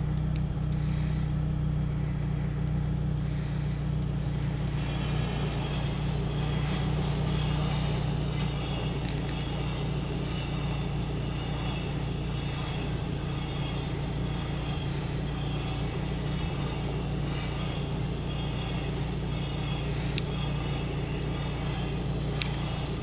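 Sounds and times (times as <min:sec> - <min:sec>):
low vehicle engine hum: 0:00.0 - 0:23.0
nose breathing on microphone: 0:00.6 - 0:01.5, 0:03.2 - 0:23.0.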